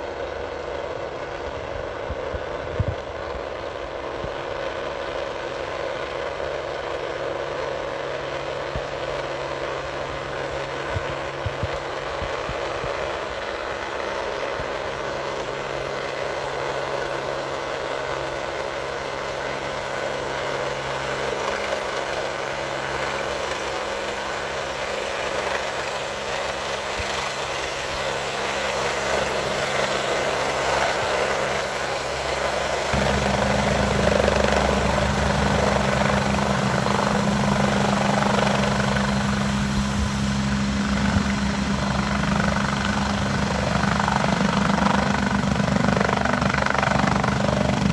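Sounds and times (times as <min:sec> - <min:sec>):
helicopter rotor chop: 0:00.0 - 0:47.9.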